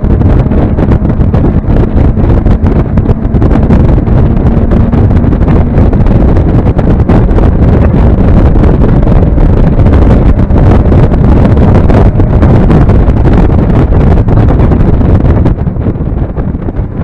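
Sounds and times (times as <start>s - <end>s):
car engine accelerating: 0.0s - 16.1s
wind buffeting microphone: 0.0s - 17.0s.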